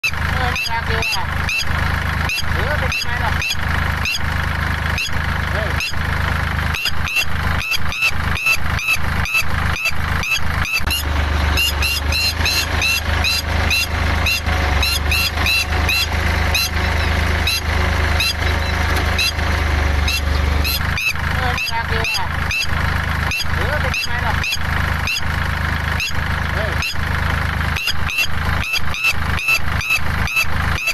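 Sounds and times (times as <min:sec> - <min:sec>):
tractor engine drone: 0:00.0 - 0:30.9
lapwing alarm calls: 0:00.4 - 0:04.3, 0:04.9 - 0:06.1, 0:06.7 - 0:27.1, 0:27.8 - 0:30.9.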